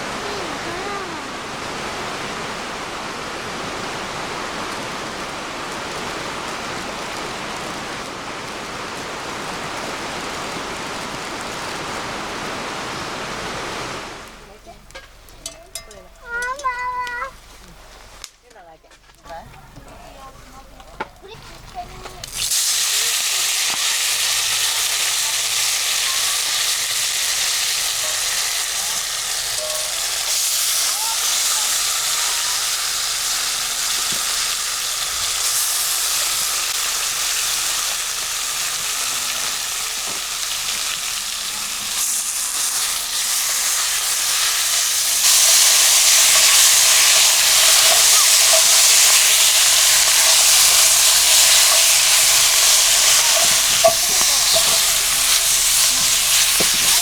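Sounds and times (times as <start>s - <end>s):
food sizzling in hot oil: 0.0s - 18.2s, 21.5s - 57.0s.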